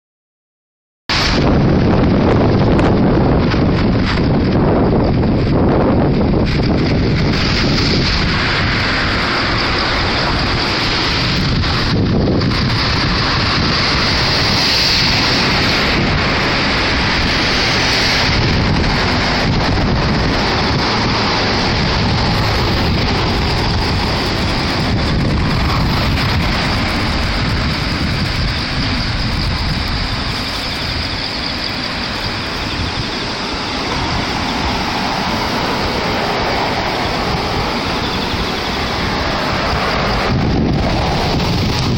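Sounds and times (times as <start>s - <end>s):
wind buffeting microphone: 1.1s - 41.9s
floodwater rushing: 6.2s - 41.9s.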